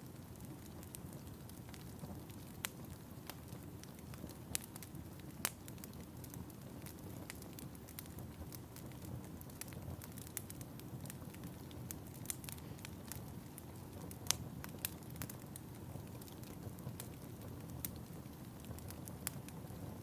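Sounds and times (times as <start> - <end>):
fire popping and snapping: 0.0 - 20.0
wood fire crackling: 0.0 - 20.0.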